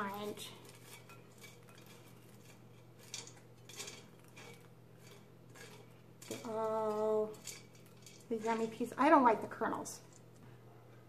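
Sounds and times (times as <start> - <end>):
metal clinks and scrapes: 0.0 - 10.4
popcorn rustling into bowl: 0.0 - 10.5.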